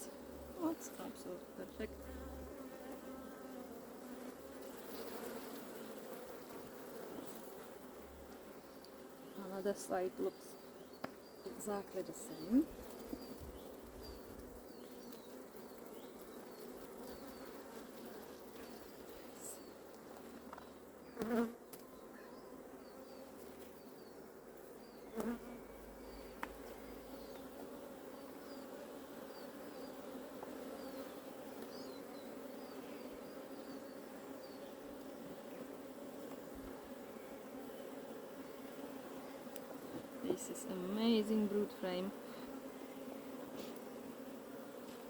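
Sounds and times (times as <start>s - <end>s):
honeybees humming: 0.0s - 45.0s
loud bee buzzes: 0.0s - 45.0s.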